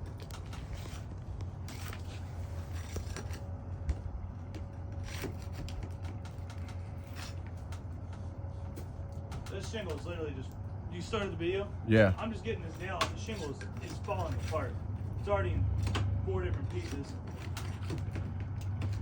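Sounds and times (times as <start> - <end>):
nail prying scrapes and creaks: 0.0 - 10.2, 12.8 - 19.0
low steady hum: 0.0 - 19.0.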